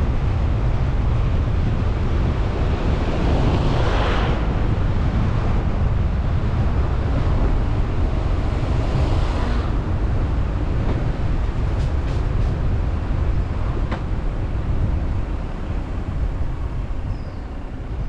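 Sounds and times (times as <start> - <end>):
rushing air: 0.0 - 18.0
wind and road noise: 0.0 - 18.0.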